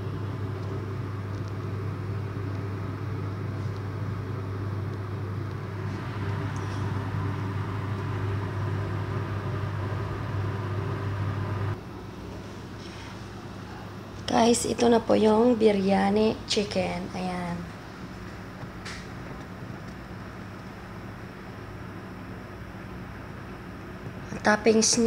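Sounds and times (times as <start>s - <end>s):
low electric motor hum: 0.0s - 25.0s.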